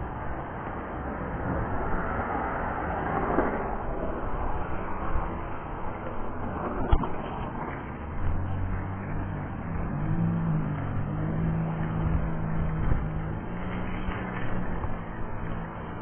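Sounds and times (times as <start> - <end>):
street traffic rushing by: 0.0 - 16.0.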